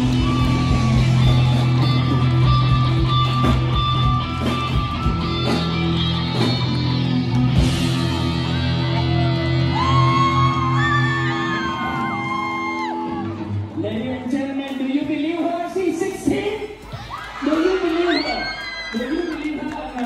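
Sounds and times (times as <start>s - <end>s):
live band playing dance music: 0.0s - 20.0s.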